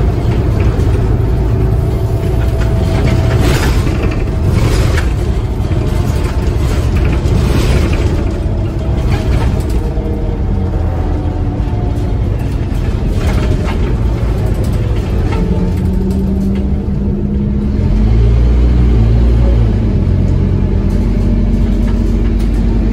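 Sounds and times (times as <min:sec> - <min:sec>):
bus interior panels rattling: 0:00.0 - 0:17.5, 0:20.3 - 0:22.9
bus engine and tyres rumbling: 0:00.0 - 0:22.9.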